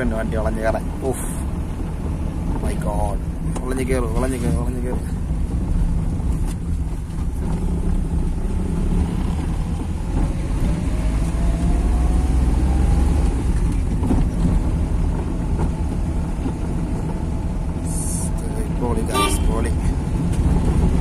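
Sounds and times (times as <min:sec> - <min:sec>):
car engine climbing: 0:00.0 - 0:21.0
road rumble: 0:00.0 - 0:21.0.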